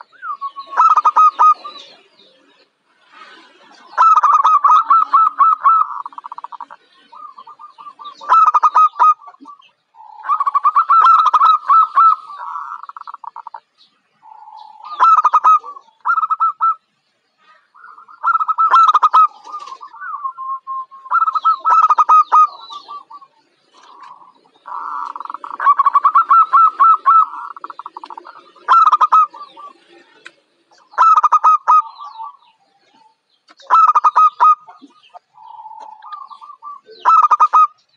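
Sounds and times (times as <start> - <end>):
dove cooing: 0.0 - 16.8, 17.4 - 37.9.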